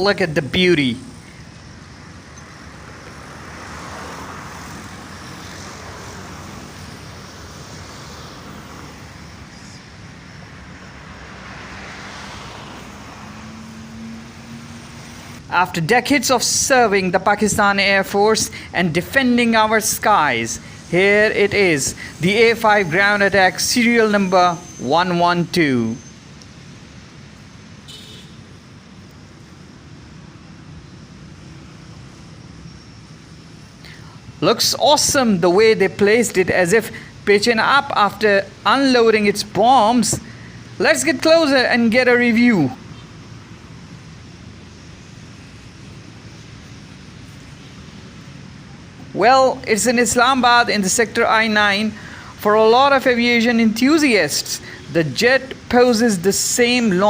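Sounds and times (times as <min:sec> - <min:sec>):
passing road traffic: 0:00.0 - 0:57.0.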